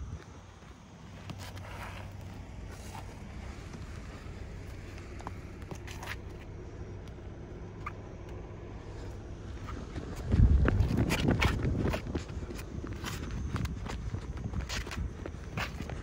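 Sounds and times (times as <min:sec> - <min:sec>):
heavy footsteps on pavement: 0:00.0 - 0:06.5, 0:08.9 - 0:16.0
low outdoor rumble: 0:00.0 - 0:16.0
sneakers scuffing on asphalt: 0:00.2 - 0:06.5, 0:08.8 - 0:16.0.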